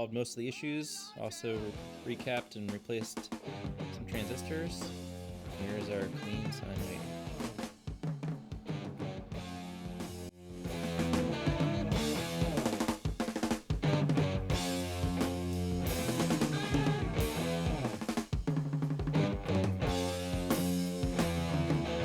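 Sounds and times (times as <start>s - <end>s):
rock music with drums and bass: 1.4s - 22.0s.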